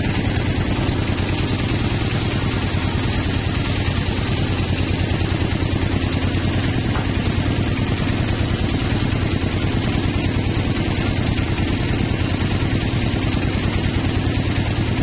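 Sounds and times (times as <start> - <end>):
engine running with low pulse: 0.0 - 15.0.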